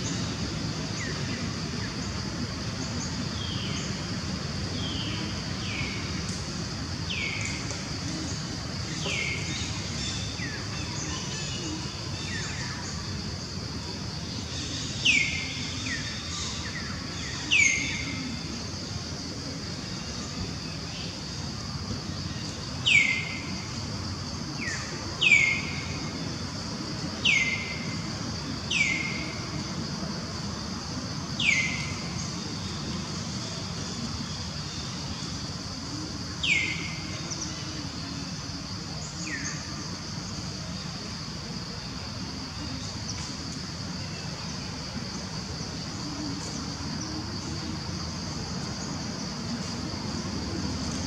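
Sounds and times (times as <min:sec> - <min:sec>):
steady high-pitched hiss: 0:00.0 - 0:51.0.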